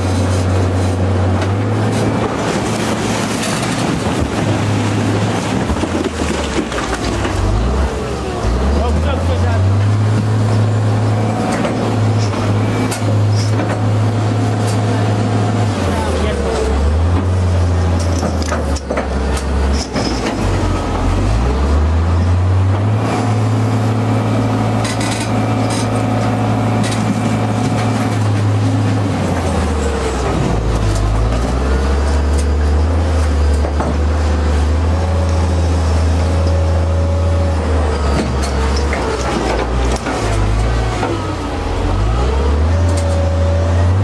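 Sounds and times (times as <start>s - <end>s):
excavator diesel engine working: 0.0s - 44.0s.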